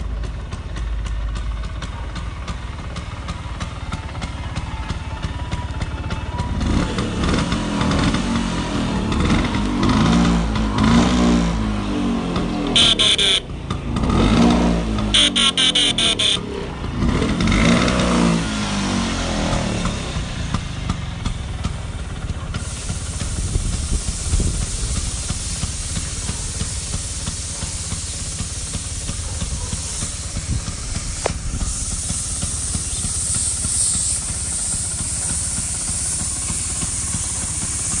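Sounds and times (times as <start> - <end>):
scooter engine revving: 0.0 - 38.0.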